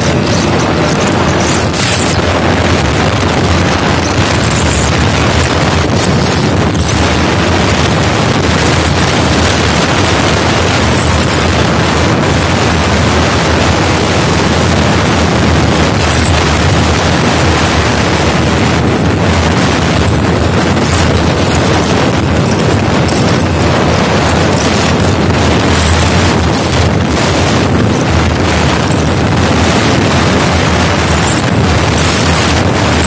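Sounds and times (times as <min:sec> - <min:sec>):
motorcycle engine running flat out: 0:00.0 - 0:33.0
wind buffeting microphone: 0:00.0 - 0:33.0.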